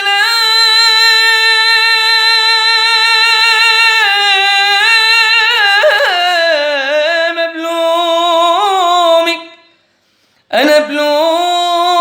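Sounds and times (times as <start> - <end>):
person singing: 0.0 - 9.7, 10.5 - 12.0.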